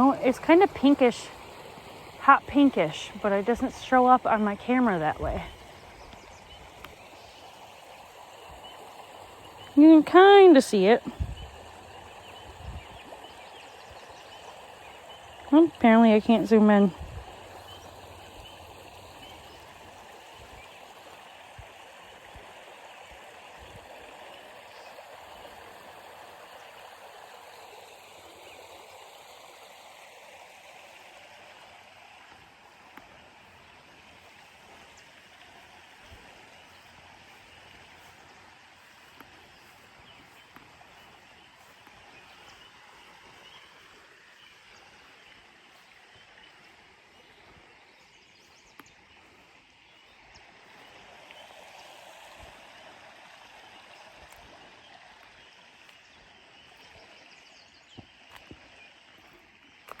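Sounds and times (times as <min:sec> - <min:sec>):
stream water running: 0:00.0 - 1:00.0.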